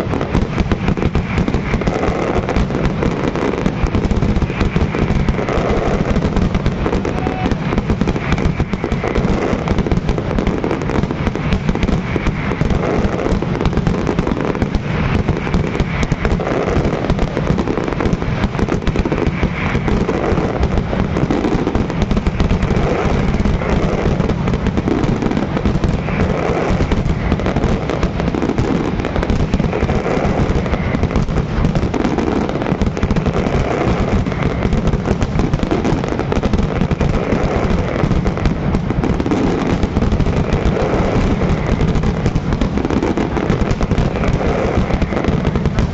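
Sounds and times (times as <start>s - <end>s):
fireworks bangs and crackling: 0.0s - 45.9s.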